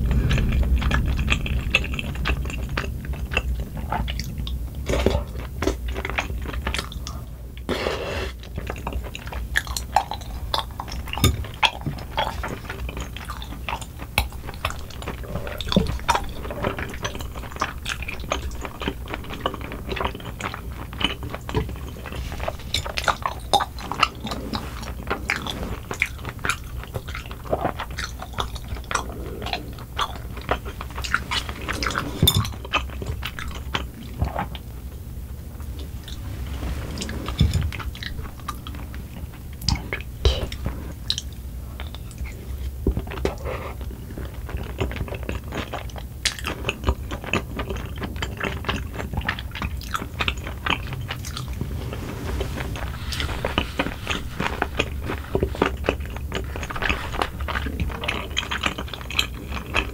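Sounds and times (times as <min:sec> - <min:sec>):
mouth chewing with wet smacks: 0:08.3 - 0:34.7, 0:37.3 - 0:52.0, 0:52.8 - 0:59.9.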